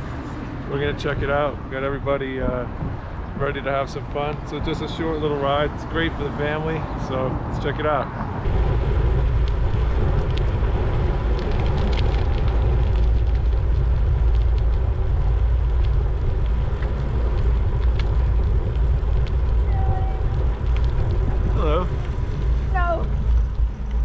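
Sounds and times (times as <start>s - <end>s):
bicycle tyre and road noise: 0.0s - 24.0s
wind rumbling on microphone: 0.0s - 24.0s.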